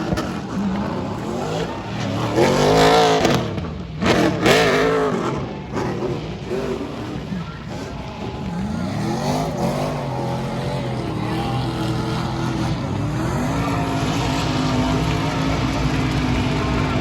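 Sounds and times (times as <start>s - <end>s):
race truck engines accelerating: 0.0s - 17.0s.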